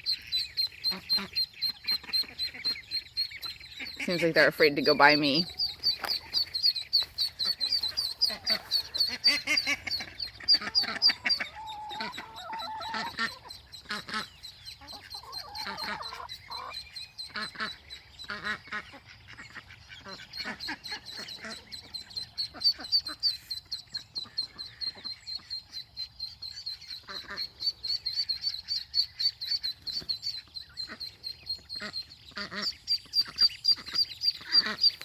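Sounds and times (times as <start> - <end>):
adult bird calling: 0.0 - 19.0, 19.9 - 35.0
ducklings peeping: 0.0 - 35.0.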